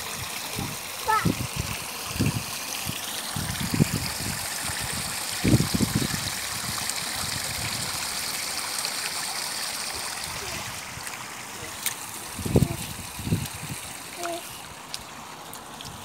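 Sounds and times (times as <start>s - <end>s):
water rushing along footpath: 0.0s - 16.0s.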